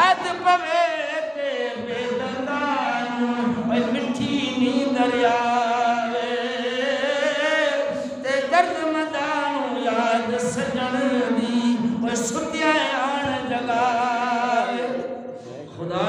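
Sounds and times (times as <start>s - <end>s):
man singing chant-like verse: 0.0s - 16.0s.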